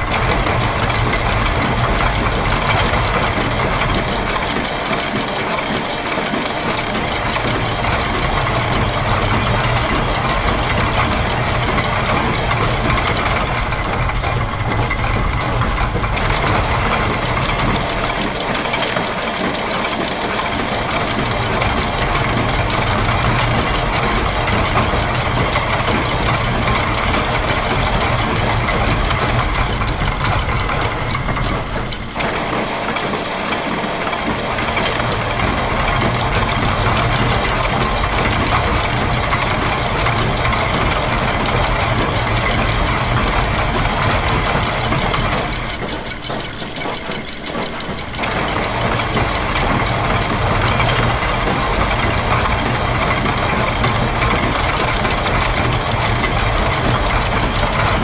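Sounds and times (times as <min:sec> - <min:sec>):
gears clattering: 0:00.0 - 0:58.0
machine press: 0:00.0 - 0:58.0
sewing machine running: 0:00.0 - 0:58.0.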